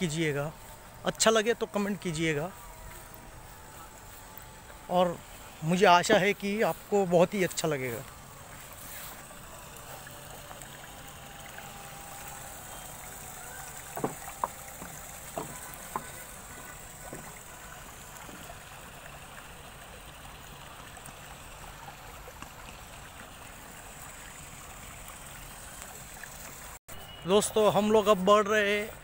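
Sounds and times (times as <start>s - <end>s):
faint outdoor hiss: 0.0s - 29.0s.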